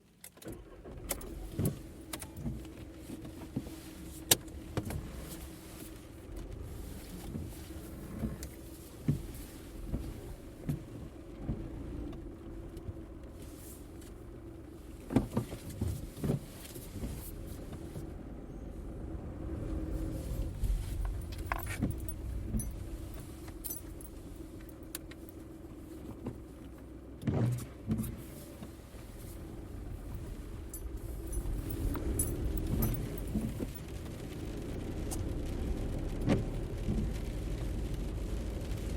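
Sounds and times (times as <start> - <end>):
car engine running: 0.6 - 38.9.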